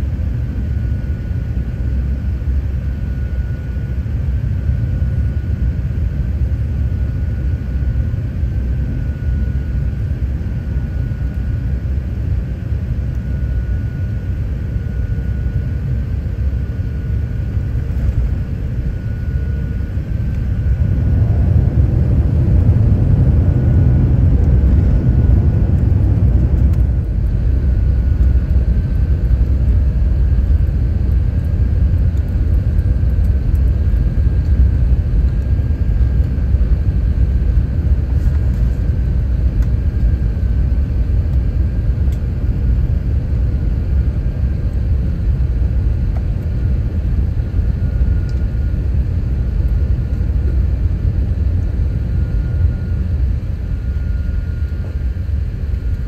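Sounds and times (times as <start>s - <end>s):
low rumble of engines and wheels: 0.0s - 56.0s
faint high whine: 0.6s - 56.0s.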